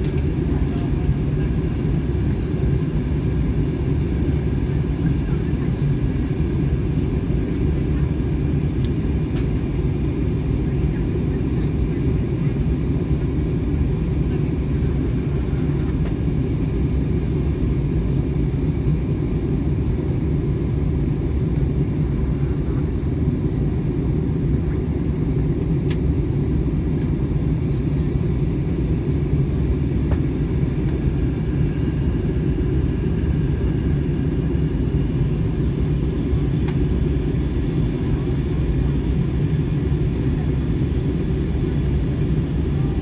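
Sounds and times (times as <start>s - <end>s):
airliner cabin rumble: 0.0s - 43.0s.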